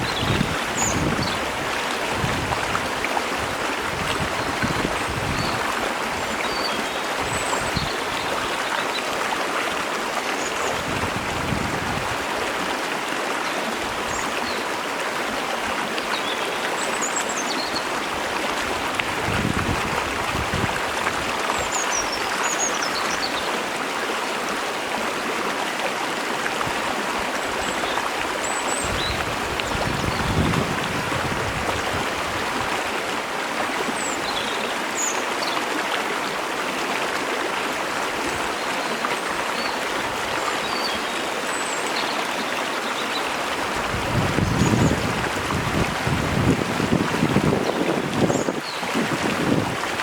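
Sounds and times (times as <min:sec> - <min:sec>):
waterfall and stream rushing: 0:00.0 - 0:50.0.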